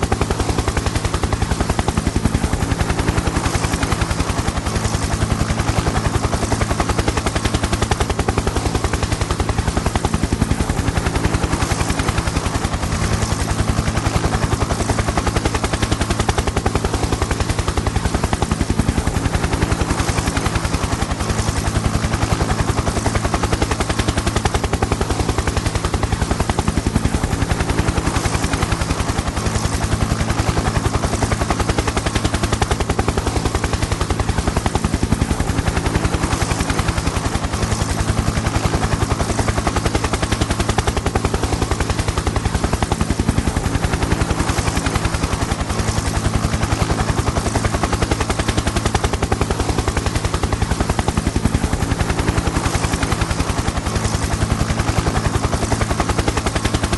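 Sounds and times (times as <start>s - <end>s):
helicopter rotor chop: 0.0s - 56.9s.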